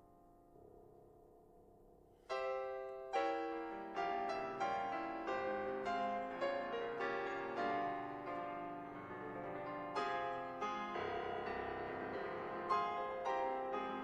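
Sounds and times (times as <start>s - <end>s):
grand piano playing classical music: 2.3s - 14.0s.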